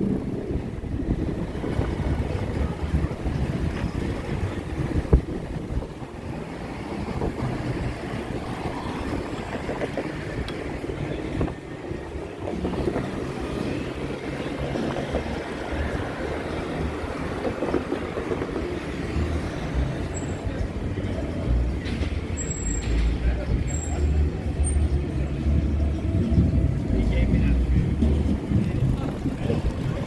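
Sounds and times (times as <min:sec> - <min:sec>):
traffic rumble: 0:00.0 - 0:30.0
wind noise on microphone: 0:00.0 - 0:30.0.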